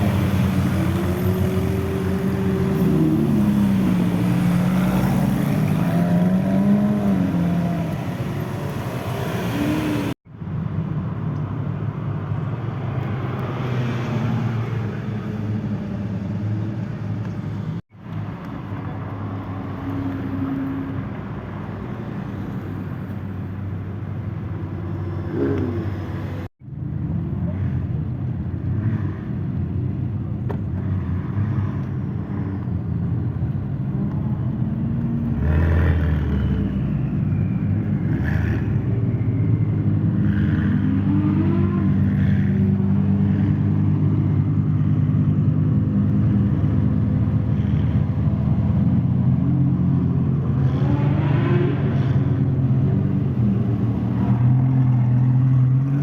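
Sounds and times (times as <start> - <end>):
car engines in slow traffic: 0.0 - 56.0.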